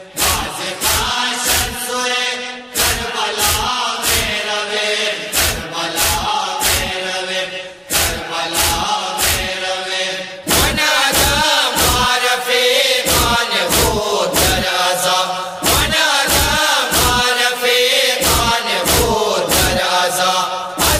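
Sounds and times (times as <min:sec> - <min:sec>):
men chanting a lament: 0:00.0 - 0:20.9
rhythmic chest-beating: 0:00.0 - 0:20.9.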